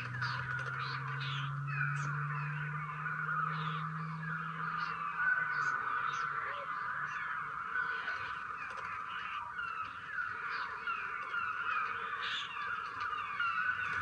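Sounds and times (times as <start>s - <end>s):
flock of birds cawing: 0.0s - 14.0s.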